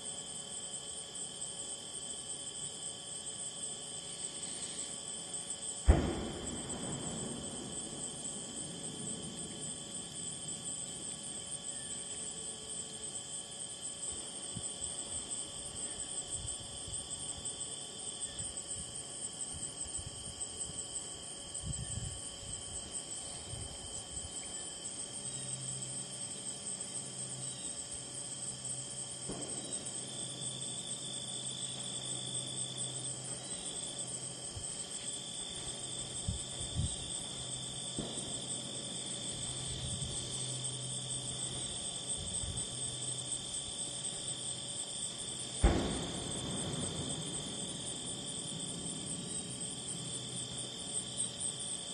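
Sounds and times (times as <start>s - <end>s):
crickets and insects trilling: 0.0s - 51.9s.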